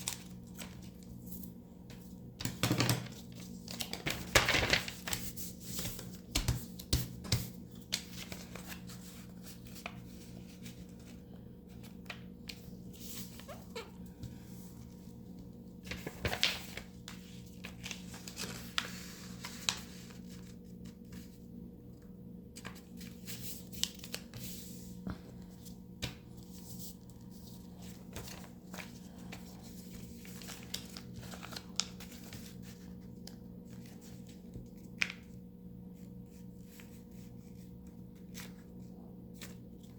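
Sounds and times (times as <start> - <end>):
low electrical hum: 0.0 - 39.9
paper rustling and folding: 0.0 - 39.9.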